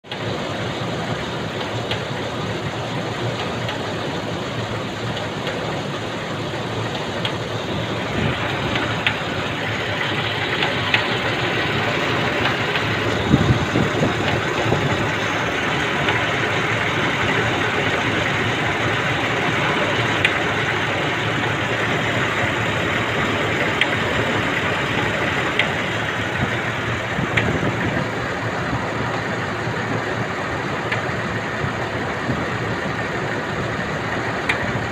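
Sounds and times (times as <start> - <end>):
car engine ticking: 0.0 - 34.9.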